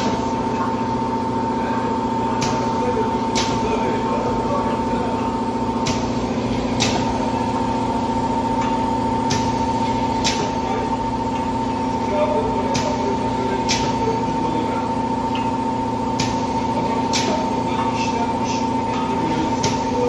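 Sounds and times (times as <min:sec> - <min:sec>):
machine humming and whining: 0:00.0 - 0:20.0.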